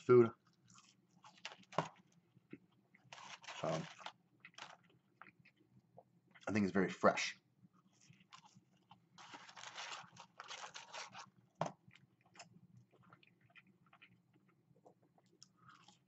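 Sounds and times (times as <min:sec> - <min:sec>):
person chewing crispy food: 0:00.5 - 0:06.5, 0:07.8 - 0:16.0.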